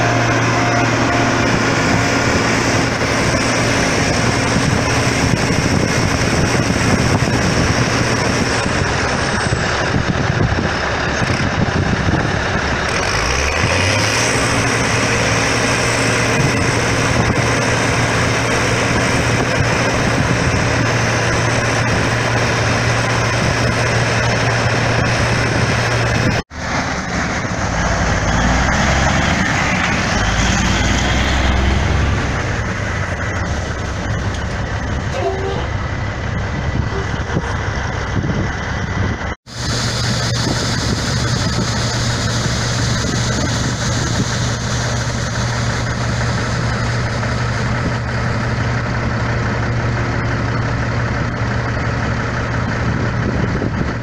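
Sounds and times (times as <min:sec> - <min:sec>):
combine harvester engine drone: 0:00.0 - 0:54.0
tractor engine running: 0:00.0 - 0:54.0.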